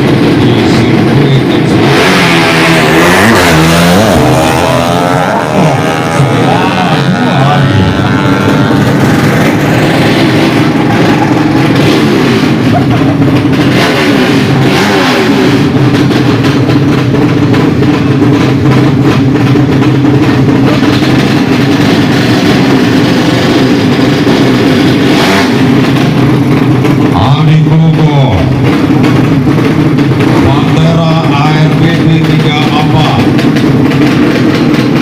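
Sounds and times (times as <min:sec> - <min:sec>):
racing motorcycle engines revving: 0:00.0 - 0:35.0.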